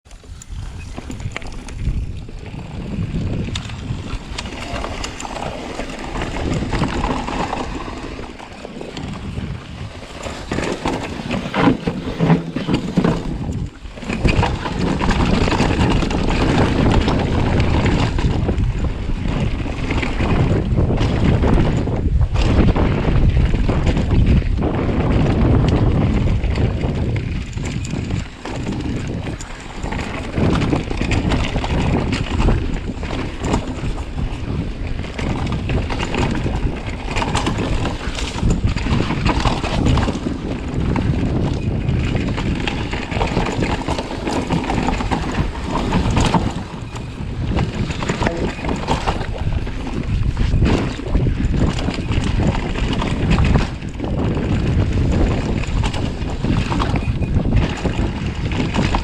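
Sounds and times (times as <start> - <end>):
bike rattling and knocking: 0.0 - 59.0
wind buffeting microphone: 0.0 - 59.0
tyres rumbling on trail: 0.1 - 59.0.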